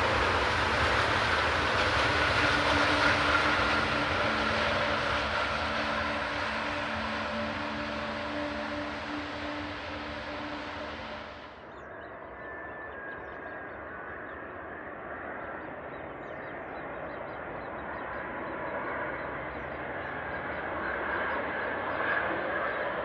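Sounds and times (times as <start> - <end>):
distant airliner engines rushing: 0.0 - 23.0.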